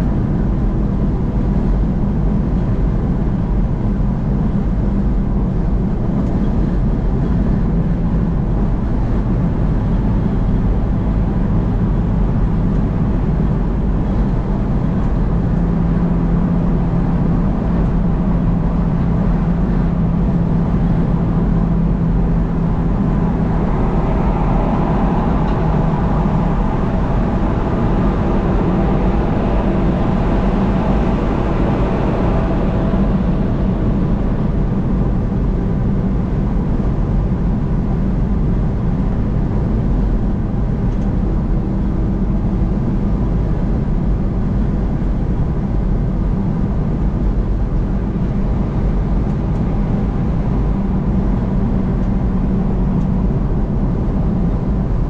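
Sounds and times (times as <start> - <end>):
constant low hum: 0.0 - 55.0
vehicle engine noise: 0.0 - 55.0.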